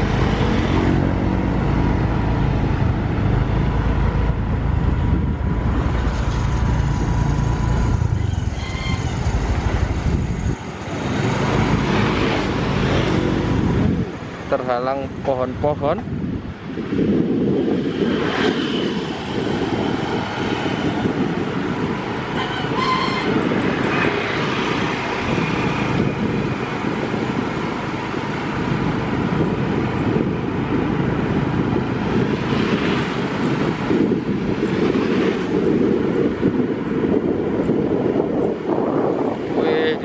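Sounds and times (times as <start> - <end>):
tram passing: 0.0 - 40.0
vehicle road noise: 0.0 - 40.0
wind on microphone: 0.0 - 40.0.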